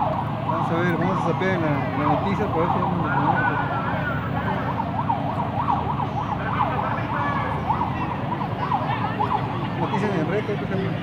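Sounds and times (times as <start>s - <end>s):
siren yelping: 0.0s - 11.0s
wailing siren: 0.0s - 11.0s.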